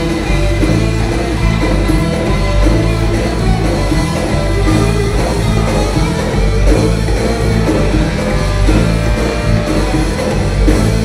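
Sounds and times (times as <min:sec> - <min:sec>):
electric guitar: 0:00.0 - 0:11.0
live funk-rock band playing: 0:00.0 - 0:11.0.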